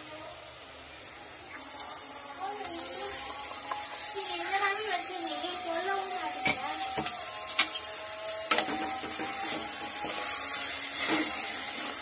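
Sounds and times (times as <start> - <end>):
paste sizzling in a pot: 0.0 - 12.0.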